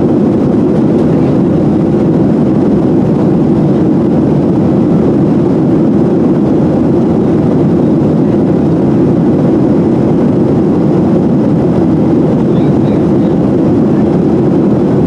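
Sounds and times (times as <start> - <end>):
airplane cabin jet engine rumble: 0.0 - 15.0.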